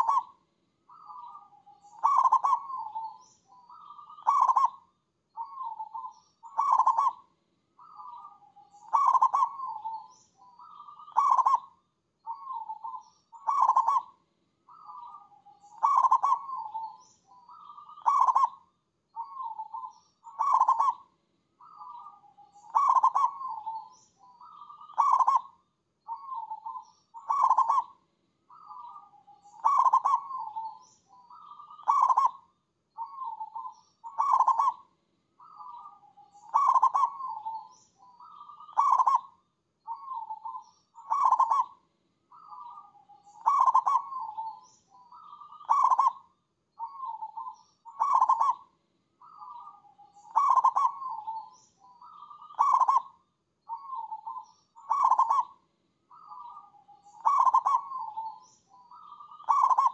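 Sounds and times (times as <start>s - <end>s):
dove cooing: 0.0s - 4.8s, 5.4s - 18.6s, 19.2s - 25.5s, 26.1s - 32.4s, 33.0s - 39.3s, 39.9s - 46.2s, 46.8s - 59.9s.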